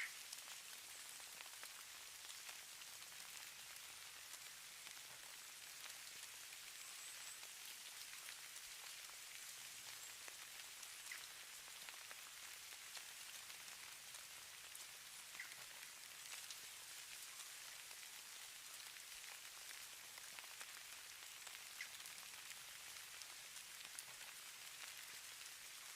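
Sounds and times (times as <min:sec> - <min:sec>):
light precipitation pattering: 0:00.0 - 0:25.9.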